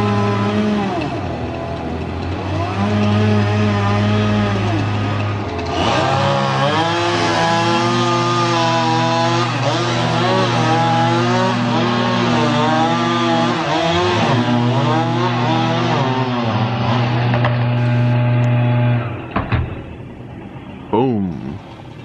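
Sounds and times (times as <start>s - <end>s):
chainsaw revving and cutting: 0.0s - 19.2s.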